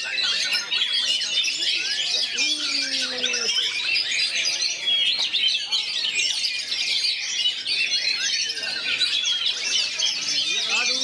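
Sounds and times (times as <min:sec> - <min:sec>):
songbirds chorus: 0:00.0 - 0:11.0.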